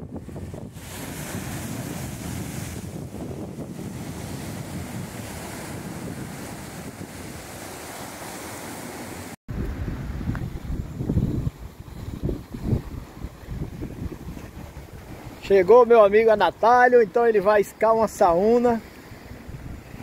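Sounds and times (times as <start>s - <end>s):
wind buffeting the microphone: 0.0s - 16.8s, 17.9s - 20.0s
sea waves washing against rocks: 0.0s - 20.0s.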